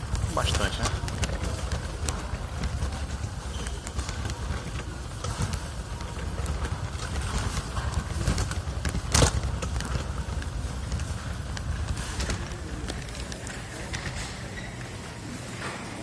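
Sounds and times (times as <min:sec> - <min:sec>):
shopping cart rolling: 0:00.0 - 0:16.0.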